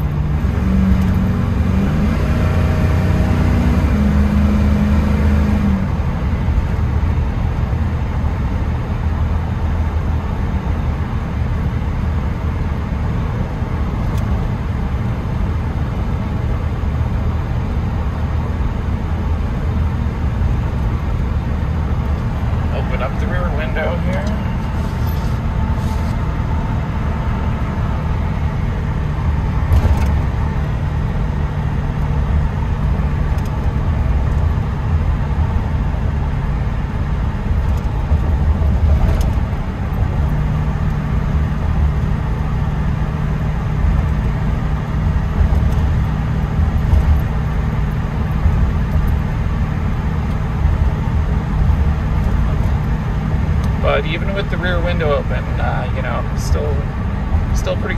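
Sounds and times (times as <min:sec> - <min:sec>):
tire noise: 0:00.0 - 0:57.9
truck engine droning: 0:00.0 - 0:57.9.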